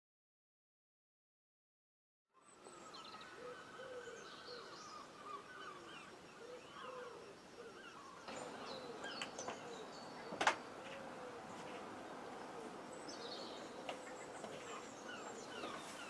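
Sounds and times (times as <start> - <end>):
birds chirping: 2.4 - 16.0.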